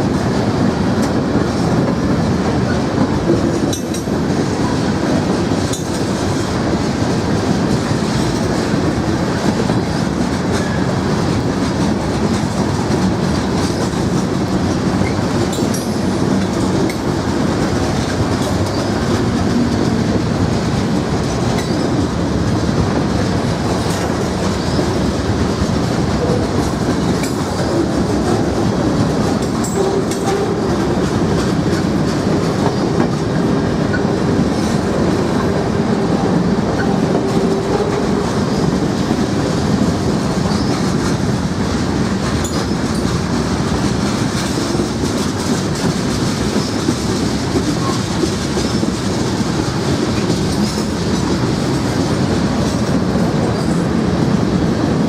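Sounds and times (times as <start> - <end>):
clickety-clack over rail joints: 0.0 - 55.0
freight train wheels rumbling on rails: 0.0 - 55.0.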